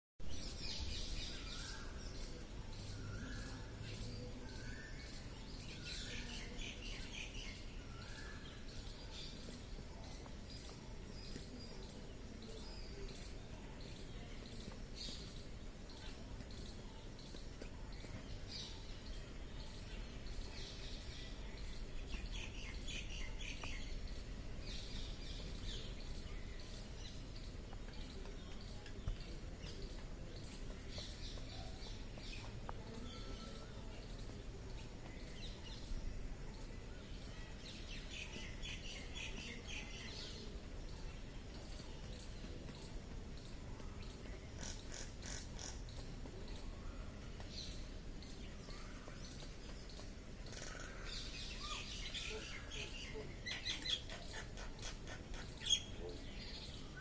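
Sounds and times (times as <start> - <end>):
small birds chirping: 0.2 - 57.0.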